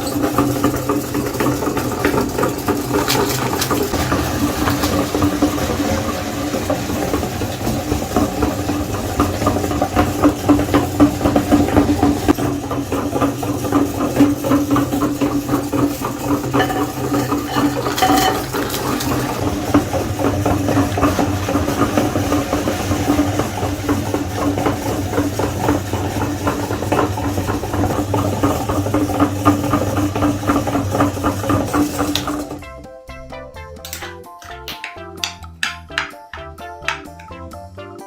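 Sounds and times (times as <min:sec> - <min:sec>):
food crackling through grinder: 0:00.0 - 0:32.6
meat grinder motor hum: 0:00.0 - 0:32.6.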